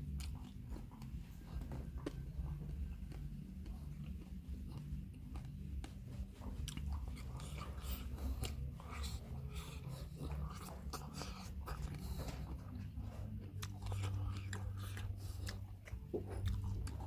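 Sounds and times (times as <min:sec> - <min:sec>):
chewing food: 0:00.0 - 0:17.0
low steady hum: 0:00.0 - 0:17.0.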